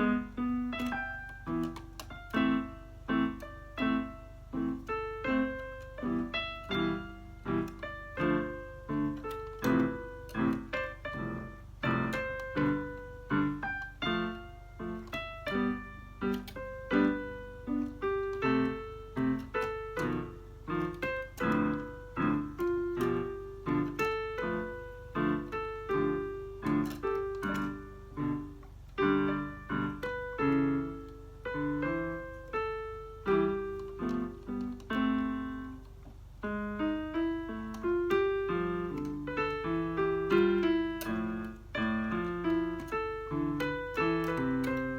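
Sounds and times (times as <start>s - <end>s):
electronic keyboard piano notes: 0.0s - 44.9s.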